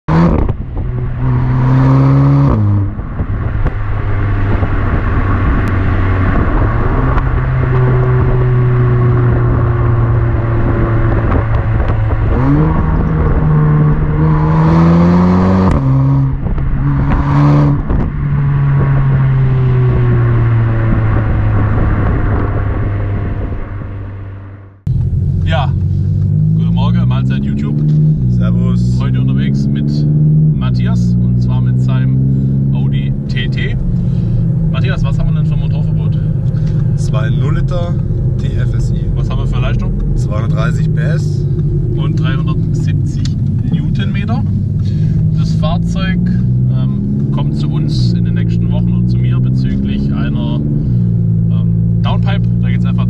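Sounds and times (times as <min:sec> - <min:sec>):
car exhaust revving: 0:00.0 - 0:53.0
road and wind noise: 0:00.0 - 0:53.0.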